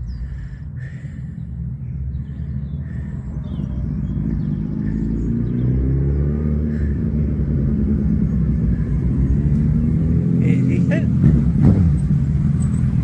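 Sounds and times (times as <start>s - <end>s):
birds chirping: 0.0s - 13.0s
motorcycle engine approaching: 0.0s - 13.0s.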